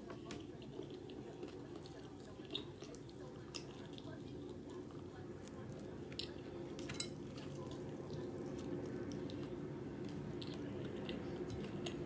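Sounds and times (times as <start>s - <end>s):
low background hum: 0.0s - 12.0s
wet chewing with mouth clicks: 0.0s - 12.0s.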